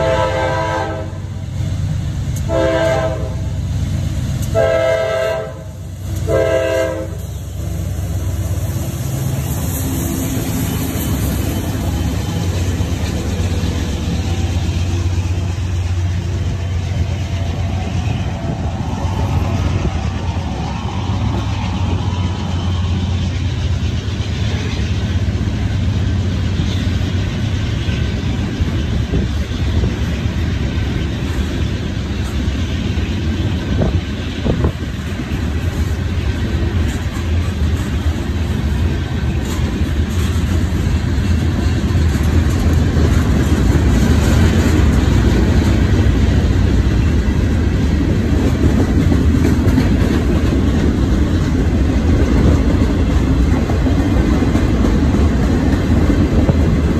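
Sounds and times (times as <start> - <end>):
freight train wheels clattering on rails: 0.0 - 56.9.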